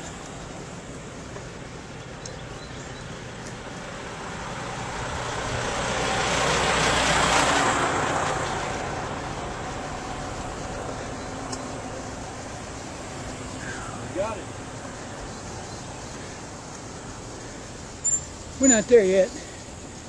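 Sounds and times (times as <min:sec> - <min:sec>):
road traffic rush: 0:00.0 - 0:20.0.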